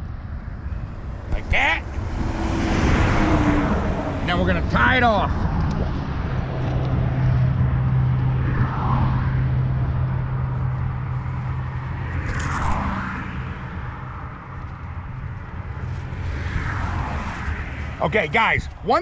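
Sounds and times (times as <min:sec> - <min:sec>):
low engine hum: 0:00.0 - 0:19.0
low rumble: 0:00.0 - 0:19.0.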